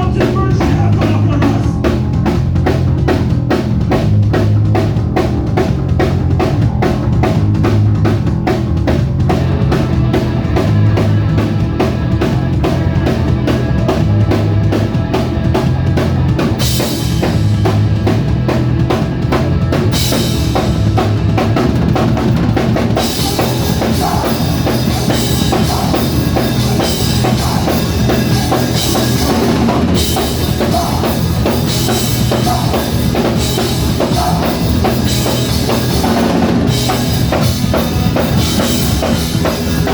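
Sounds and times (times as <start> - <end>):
bass line: 0.0 - 39.9
drum kit beat: 0.0 - 39.9.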